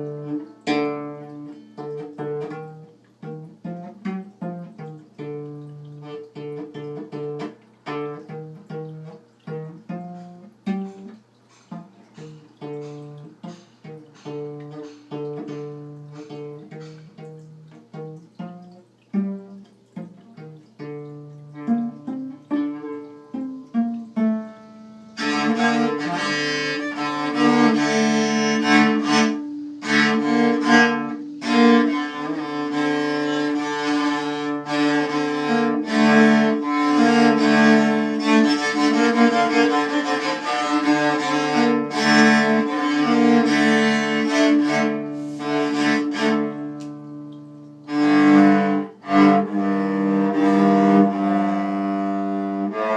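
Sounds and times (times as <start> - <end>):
bowed string instruments: 0.0 - 52.9.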